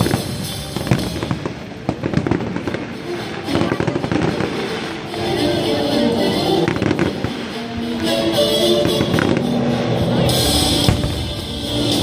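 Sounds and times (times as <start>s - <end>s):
fireworks bangs and crackles: 0.0s - 12.0s
music with sustained notes: 0.0s - 12.0s.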